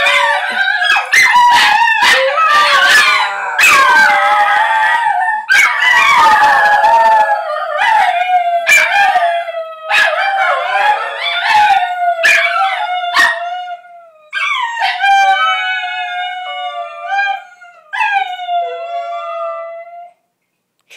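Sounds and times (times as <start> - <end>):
dogs howling: 0.0 - 20.2.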